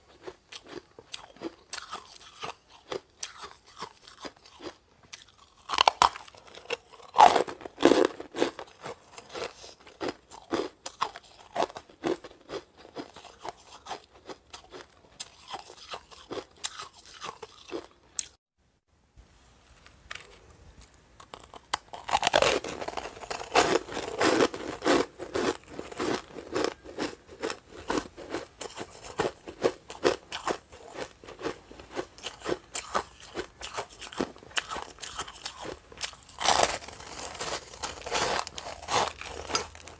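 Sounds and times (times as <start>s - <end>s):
ice being bitten and chewed: 0.1s - 18.4s, 21.2s - 39.9s.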